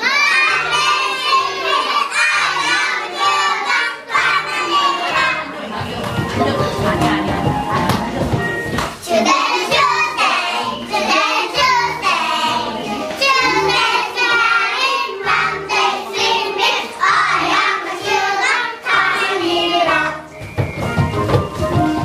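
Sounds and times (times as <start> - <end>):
children singing: 0.0 - 7.3, 9.0 - 20.4
musical accompaniment: 0.0 - 22.0.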